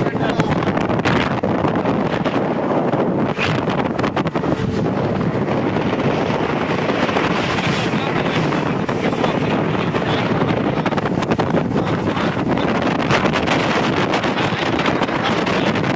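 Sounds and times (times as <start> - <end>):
wind on microphone: 0.0 - 15.9.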